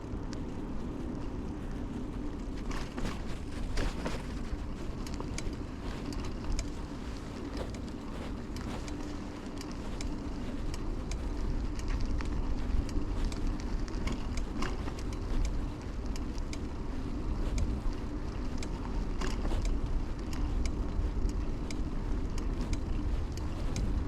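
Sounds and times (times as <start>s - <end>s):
tyre and road rumble: 0.0s - 24.0s
wind buffeting microphone: 0.0s - 24.0s
small clicks and rattles: 0.2s - 24.0s.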